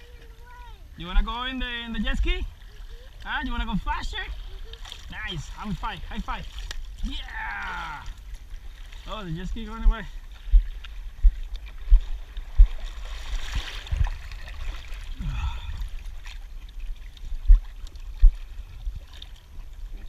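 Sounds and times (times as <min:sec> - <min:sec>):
small waves lapping: 0:00.0 - 0:20.0
gurgling splash: 0:02.2 - 0:20.0.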